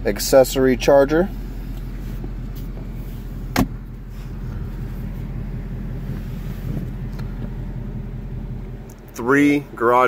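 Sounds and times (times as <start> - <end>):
car engine hum inside cabin: 0.0 - 10.0.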